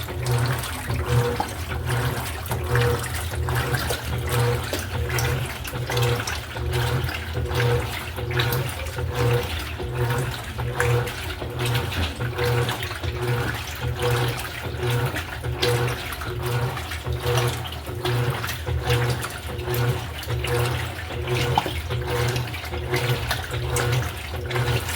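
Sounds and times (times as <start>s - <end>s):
washing machine motor pulsing hum: 0.0s - 24.9s
water sloshing in tub: 0.0s - 24.9s.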